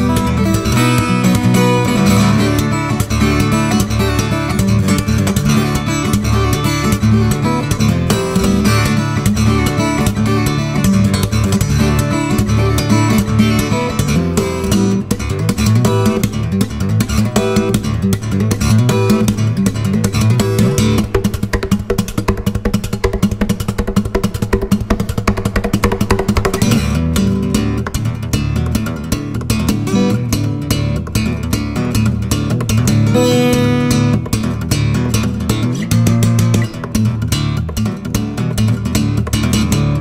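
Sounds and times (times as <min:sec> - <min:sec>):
acoustic guitar playing: 0:00.0 - 0:40.0.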